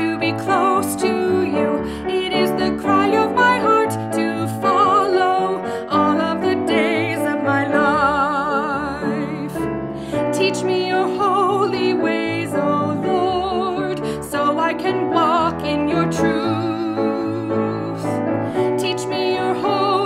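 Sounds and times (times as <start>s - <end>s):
woman singing worship song: 0.0s - 9.7s, 10.3s - 20.0s
piano accompaniment: 0.0s - 20.0s.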